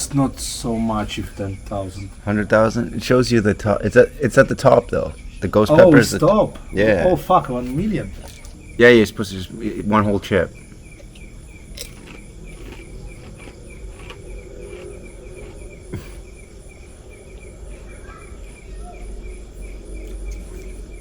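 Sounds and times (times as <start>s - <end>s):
crickets chirping: 0.0s - 21.0s
faint high whine: 0.0s - 21.0s.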